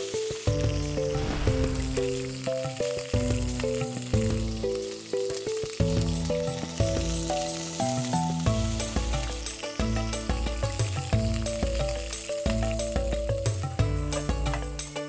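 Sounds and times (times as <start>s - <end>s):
background music: 0.0s - 15.0s
meat sizzling in oil: 0.0s - 15.0s.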